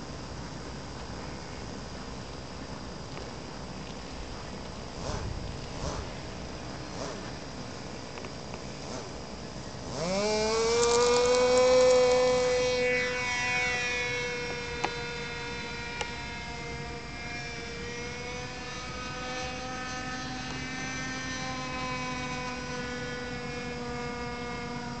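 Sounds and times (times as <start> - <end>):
model airplane engine buzzing: 0.0 - 25.0.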